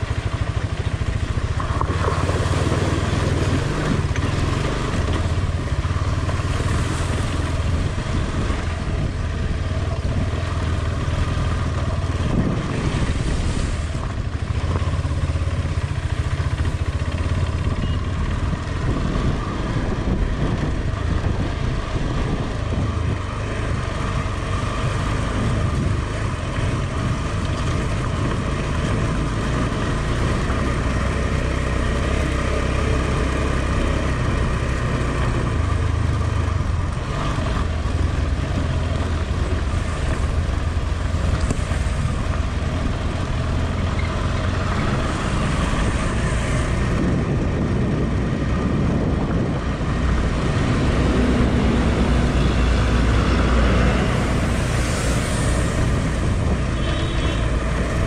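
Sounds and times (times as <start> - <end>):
constant rushing noise: 0.0 - 58.0
motorcycle engine running: 0.0 - 58.0.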